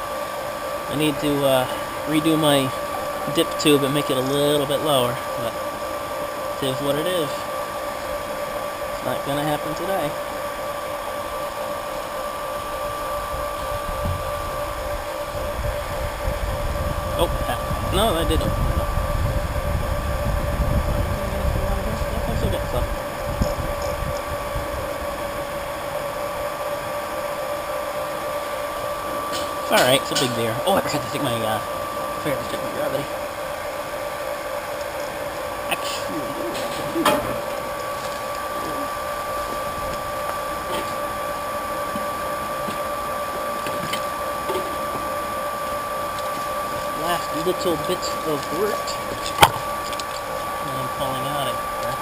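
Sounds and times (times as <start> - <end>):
electric pump whirring: 0.0 - 52.0.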